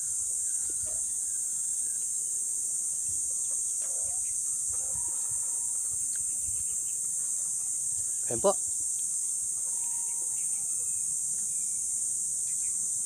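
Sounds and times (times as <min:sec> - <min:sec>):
insect chorus droning: 0:00.0 - 0:13.0.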